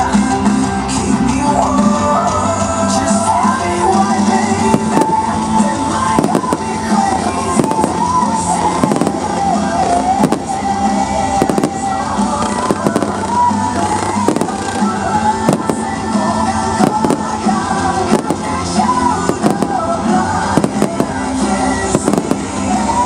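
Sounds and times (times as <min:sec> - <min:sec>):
fireworks bangs: 0:04.0 - 0:23.0.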